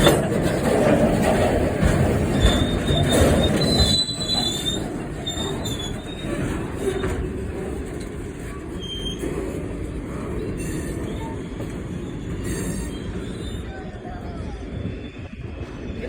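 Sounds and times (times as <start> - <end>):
train rumbling: 0.0 - 16.0
train wheels squealing on rails: 0.0 - 16.0.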